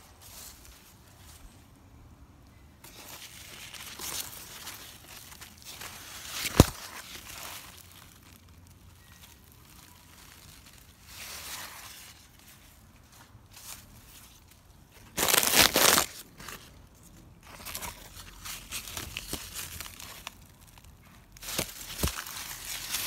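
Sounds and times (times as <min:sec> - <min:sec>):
leaves and grass rustling: 0:00.0 - 0:23.0.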